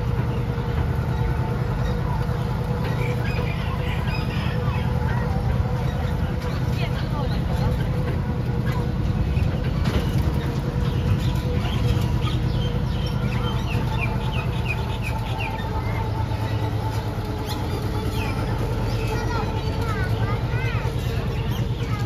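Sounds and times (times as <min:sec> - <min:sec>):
small train engine running: 0:00.0 - 0:22.0.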